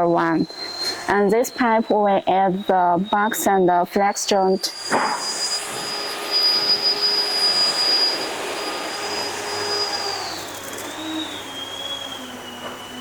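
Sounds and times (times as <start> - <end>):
machine motor whining: 0.0 - 13.0.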